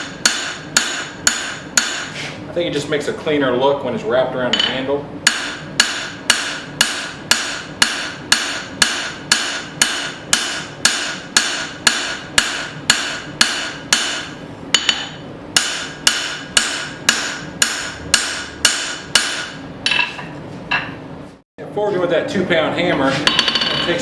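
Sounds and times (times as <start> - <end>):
hammer striking steel on anvil: 0.0 - 2.1, 4.5 - 21.0, 23.2 - 24.0.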